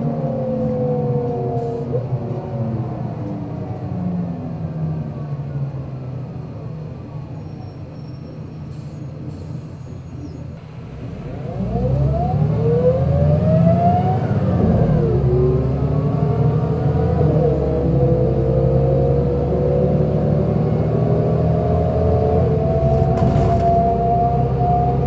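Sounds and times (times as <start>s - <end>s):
bus engine accelerating: 0.0s - 25.0s.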